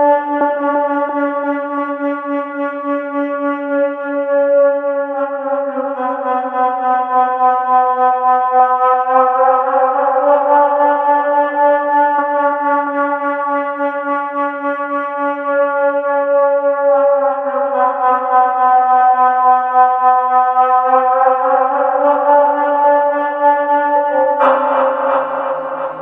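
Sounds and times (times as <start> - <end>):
reedy musical drone: 0.0 - 26.0.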